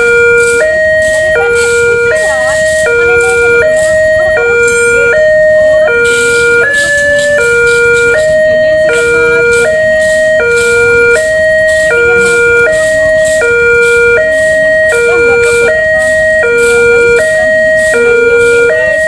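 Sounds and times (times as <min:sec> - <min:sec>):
level crossing two-tone siren: 0:00.0 - 0:19.0.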